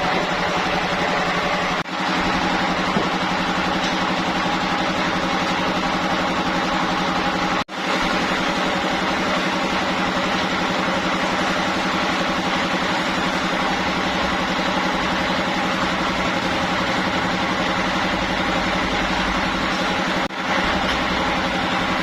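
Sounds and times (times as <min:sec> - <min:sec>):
sawmill machinery droning: 0:00.0 - 0:22.0.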